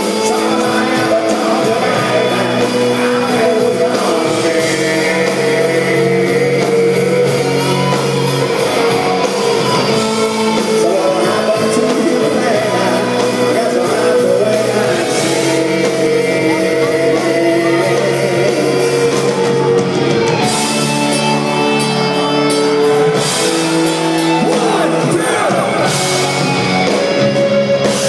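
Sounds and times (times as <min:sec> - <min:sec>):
person singing: 0:00.0 - 0:23.2, 0:24.1 - 0:28.0
live rock band playing: 0:00.0 - 0:28.0.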